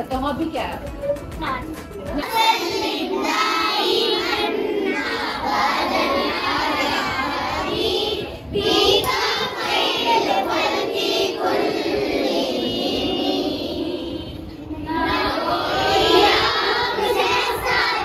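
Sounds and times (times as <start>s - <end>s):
girls singing devotional recitation: 2.2s - 18.0s.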